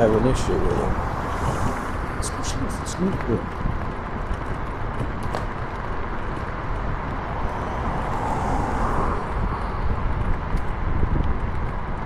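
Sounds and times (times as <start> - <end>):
vehicle passing: 0.0 - 11.5
road and wind rumble: 0.0 - 12.0.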